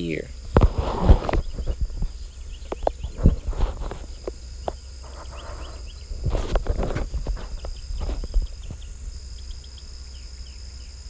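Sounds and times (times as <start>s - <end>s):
birds chirping: 0.0s - 11.0s
crickets trilling: 0.0s - 11.0s.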